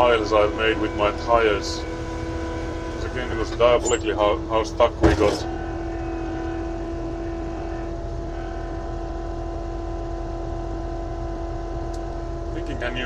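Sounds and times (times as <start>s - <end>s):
heavy machine engine humming: 0.0s - 13.0s.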